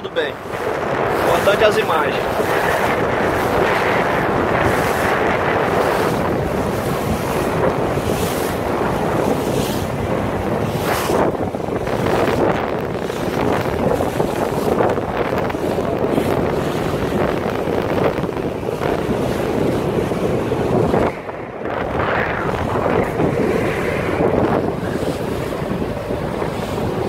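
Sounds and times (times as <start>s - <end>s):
choppy water slapping boat hull: 0.0s - 27.0s
wind buffeting microphone: 0.0s - 27.0s.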